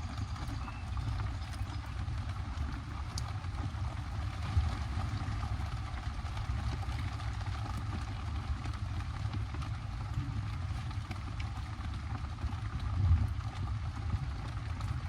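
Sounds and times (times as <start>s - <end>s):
heavy rain on a tarp: 0.0s - 15.0s.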